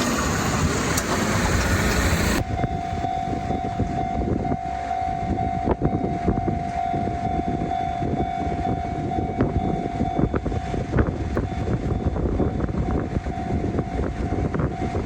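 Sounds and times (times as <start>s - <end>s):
level-crossing warning bell: 0.0s - 15.0s
train rumbling on rails: 0.0s - 15.0s.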